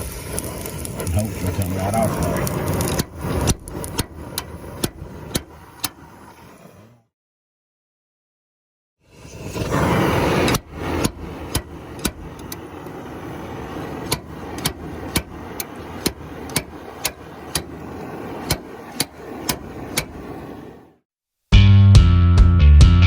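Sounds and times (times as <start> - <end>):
torch hissing: 0.0 - 7.1, 9.0 - 21.0.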